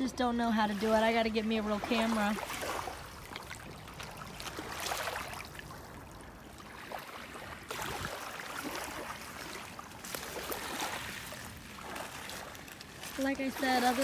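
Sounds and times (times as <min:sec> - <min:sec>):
small waves lapping on pebbles: 0:00.5 - 0:14.0.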